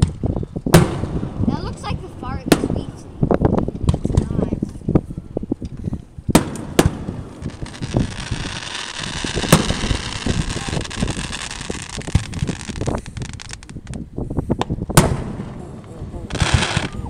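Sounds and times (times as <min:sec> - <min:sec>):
fireworks bangs: 0:00.0 - 0:05.0, 0:06.3 - 0:17.0
fireworks thumps: 0:00.0 - 0:05.0, 0:05.6 - 0:17.0
fireworks crackling: 0:00.0 - 0:17.0.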